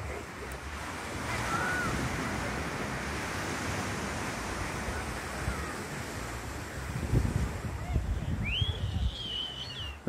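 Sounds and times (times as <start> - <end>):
ocean surf: 0.0 - 10.0.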